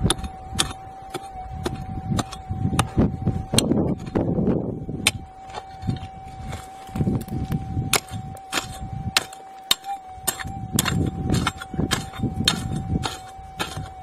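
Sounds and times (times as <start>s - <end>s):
pick striking stony dirt: 0.0s - 4.2s, 5.0s - 14.0s
steady high tone: 0.0s - 14.0s.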